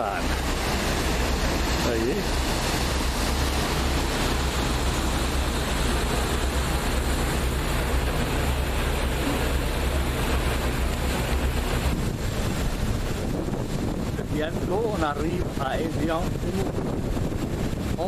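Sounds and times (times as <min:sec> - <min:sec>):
boat engine rumble: 0:00.0 - 0:18.0
wind and water rushing: 0:00.0 - 0:18.0.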